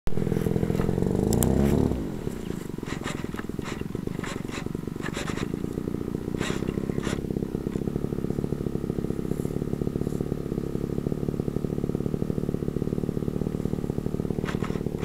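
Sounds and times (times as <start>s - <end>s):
small engine idling: 0.1s - 15.0s.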